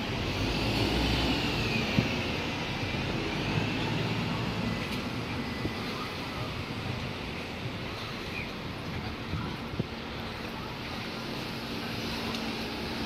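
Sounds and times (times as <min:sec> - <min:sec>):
hum of cars on the road: 0:00.0 - 0:13.0.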